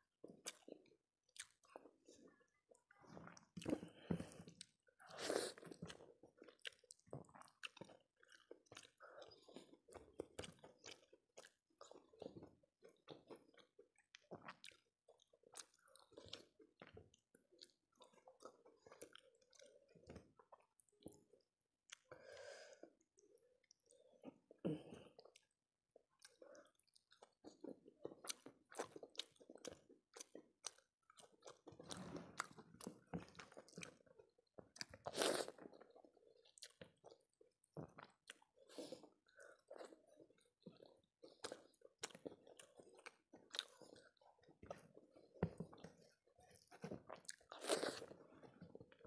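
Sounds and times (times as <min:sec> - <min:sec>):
person chewing food: 0:00.2 - 0:49.0.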